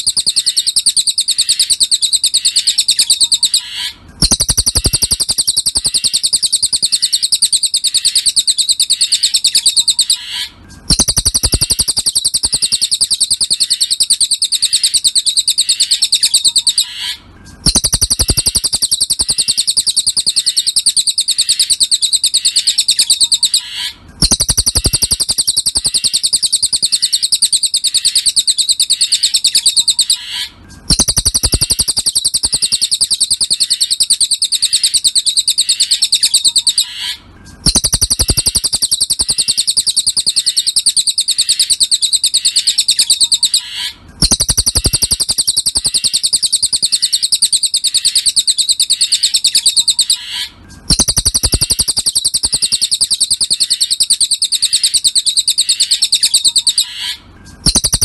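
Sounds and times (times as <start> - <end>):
rapid high-pitched chattering trill: 0.0 - 10.3, 10.9 - 17.0, 17.6 - 30.2, 30.9 - 36.9, 37.6 - 43.6, 44.2 - 50.2, 50.9 - 56.9, 57.6 - 58.0.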